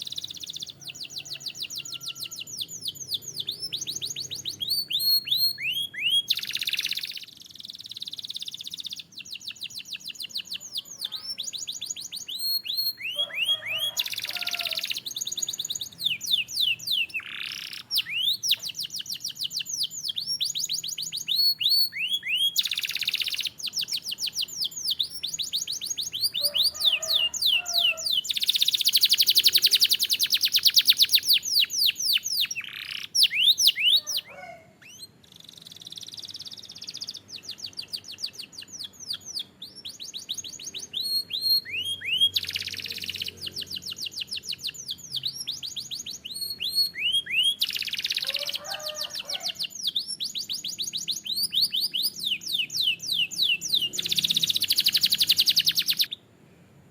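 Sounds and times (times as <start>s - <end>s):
canary singing trills: 0.0s - 56.3s.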